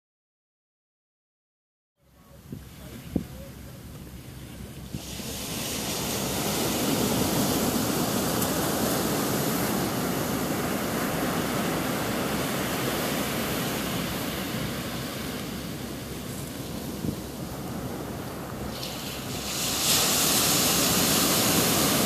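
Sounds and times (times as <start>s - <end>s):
steady rushing roar: 2.3s - 22.0s.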